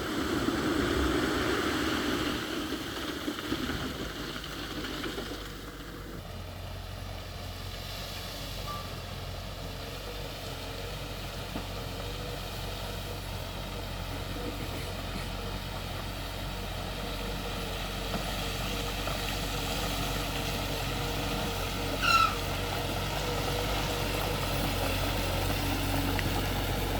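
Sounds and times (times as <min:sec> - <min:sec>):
diesel machinery engine drone: 0:00.0 - 0:26.9.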